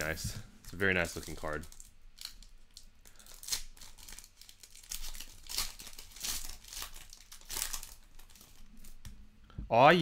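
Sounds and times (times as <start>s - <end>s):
foil wrapper tearing and crinkling: 0.7s - 9.0s.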